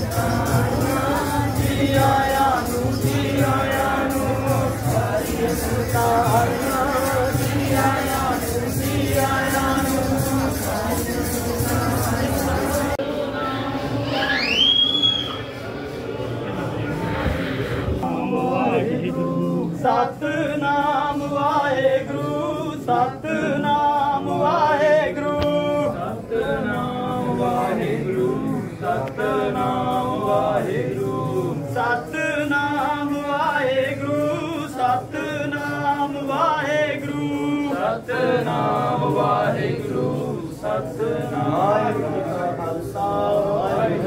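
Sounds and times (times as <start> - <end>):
group singing devotional song: 0.0 - 44.0.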